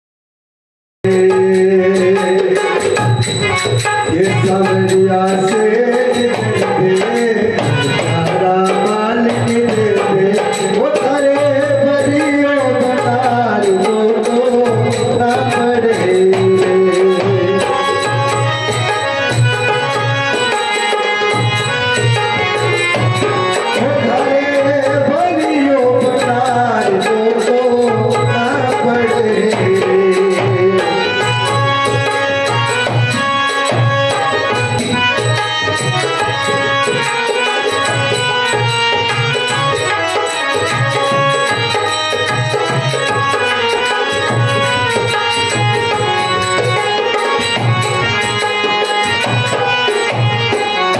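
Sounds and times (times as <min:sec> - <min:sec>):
hand drum beat: 0:01.1 - 0:50.9
wavering melody: 0:01.2 - 0:50.9.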